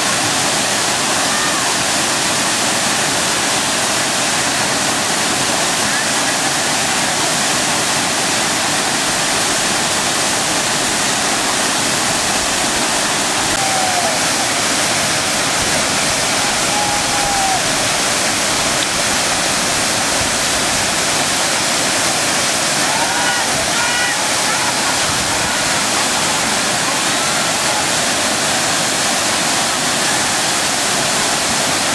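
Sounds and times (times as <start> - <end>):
waterfall pouring: 0.0 - 31.9.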